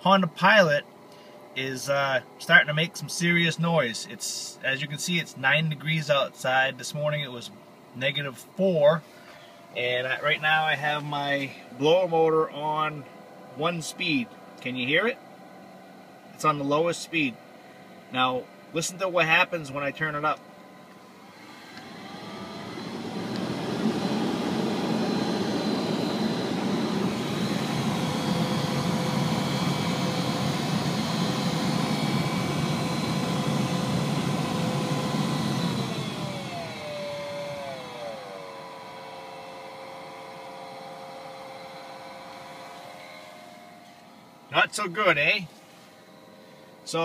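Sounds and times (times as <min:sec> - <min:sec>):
blower fan rushing air with whine: 0:00.0 - 0:47.0.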